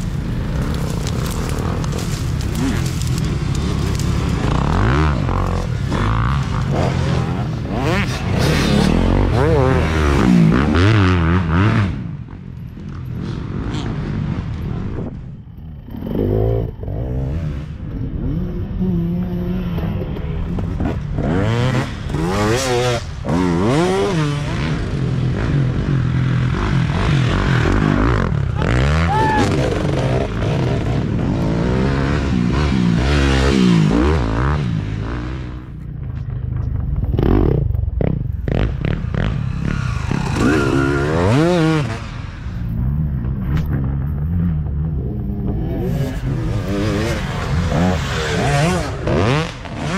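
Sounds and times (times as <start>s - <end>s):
dirt bikes racing past: 0.0s - 49.9s.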